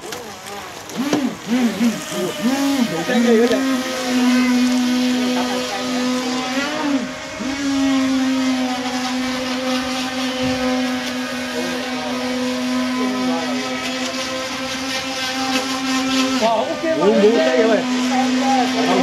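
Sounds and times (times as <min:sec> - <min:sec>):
electric motor high whine: 0:00.0 - 0:19.0.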